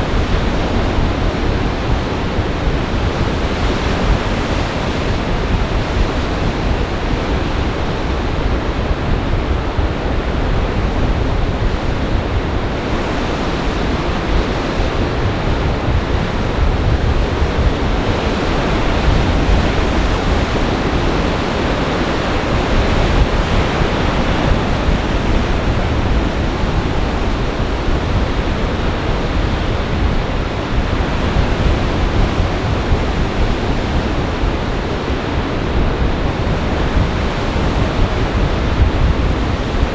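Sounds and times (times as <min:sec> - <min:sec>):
storm surf churning: 0:00.0 - 0:39.9
wind rumbling on microphone: 0:00.0 - 0:39.9.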